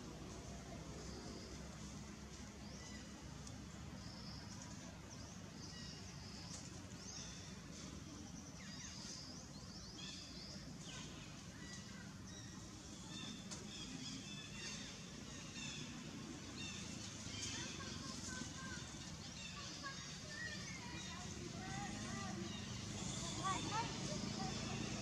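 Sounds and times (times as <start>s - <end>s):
birds chirping: 0.3s - 25.0s.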